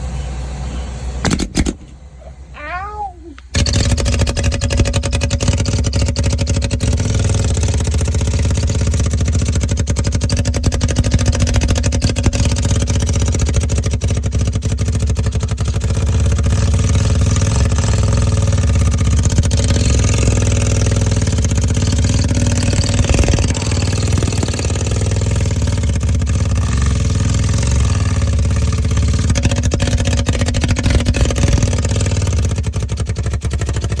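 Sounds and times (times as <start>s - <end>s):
engine rumbling: 0.0s - 34.0s.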